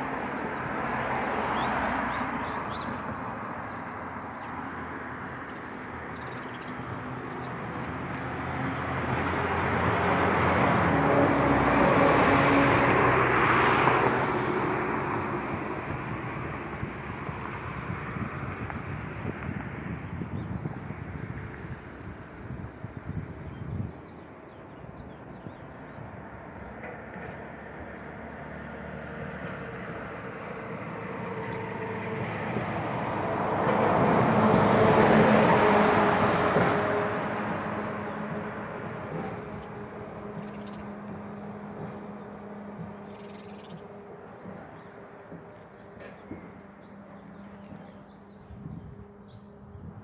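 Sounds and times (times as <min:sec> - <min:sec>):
vehicle passing by: 0:00.0 - 0:23.0, 0:25.0 - 0:50.0.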